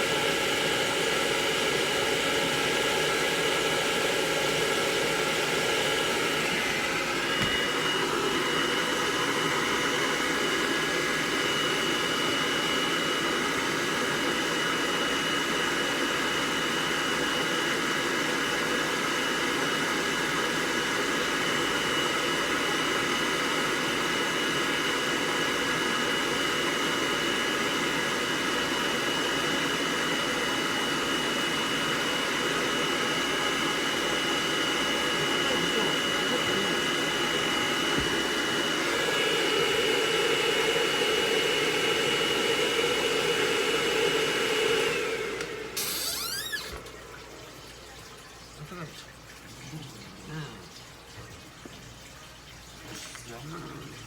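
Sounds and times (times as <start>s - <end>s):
hair dryer blowing: 0.0s - 47.1s.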